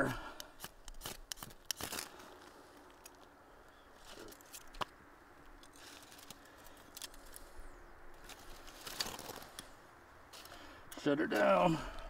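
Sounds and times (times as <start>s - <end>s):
campfire clicks and crackles: 0.1s - 11.5s.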